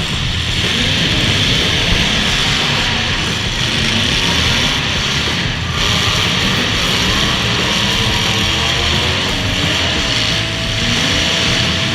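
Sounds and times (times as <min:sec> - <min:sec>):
car engines revving hard: 0:00.0 - 0:11.9
music playing: 0:00.0 - 0:11.9.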